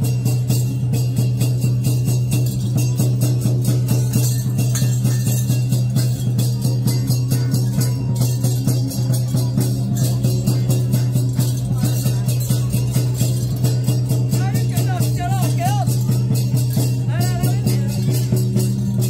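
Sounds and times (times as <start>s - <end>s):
drums and cymbals beating: 0.0s - 19.0s.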